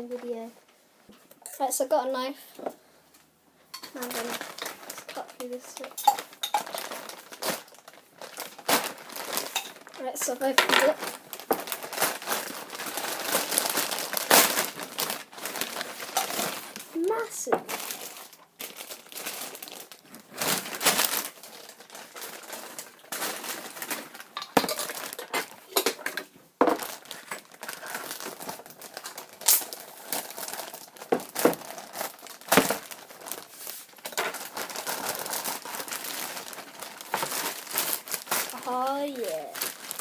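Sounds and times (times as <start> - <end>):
packaging crinkling and rustling: 3.8 - 40.0.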